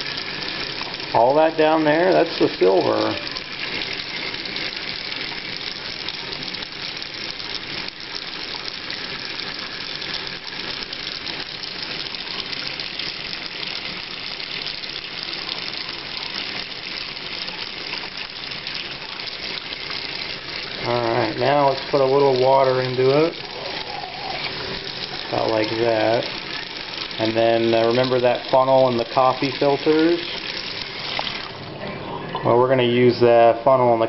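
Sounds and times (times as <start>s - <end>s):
tap water running into sink: 0.0s - 34.0s.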